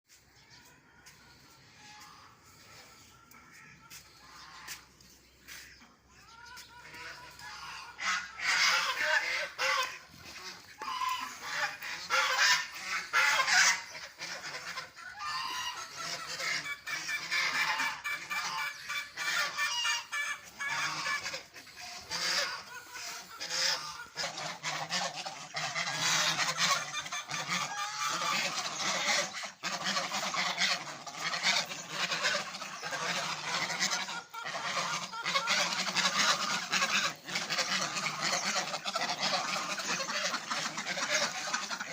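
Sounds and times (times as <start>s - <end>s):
flock of birds calling noisily: 0.1s - 41.9s.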